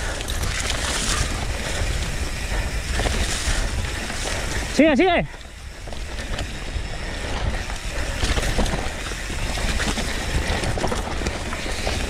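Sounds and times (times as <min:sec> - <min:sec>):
bike clicks and rattles: 0:00.0 - 0:12.0
tyres rolling on dirt: 0:00.0 - 0:12.0.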